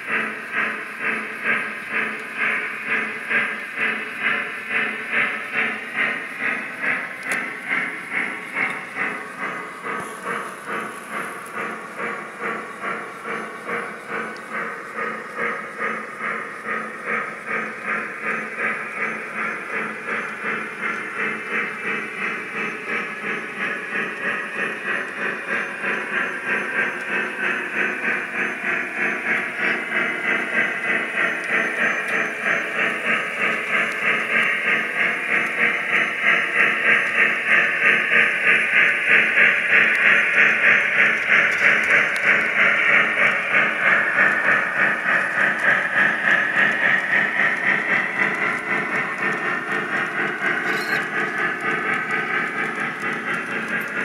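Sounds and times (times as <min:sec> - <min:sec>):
model train steam chuffing: 0:00.0 - 0:54.0.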